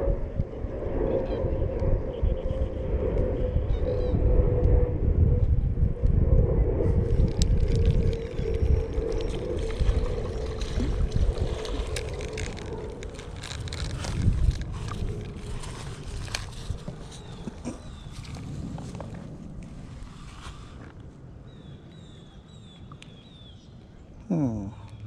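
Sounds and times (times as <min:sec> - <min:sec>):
wind buffeting the microphone: 0:00.0 - 0:24.1.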